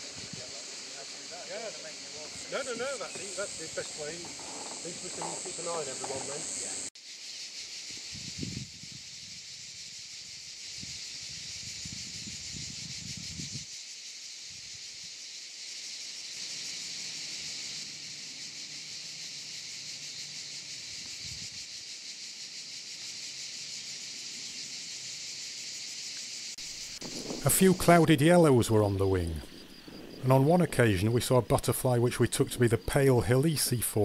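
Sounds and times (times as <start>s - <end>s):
insects shrilling: 0.0s - 34.0s.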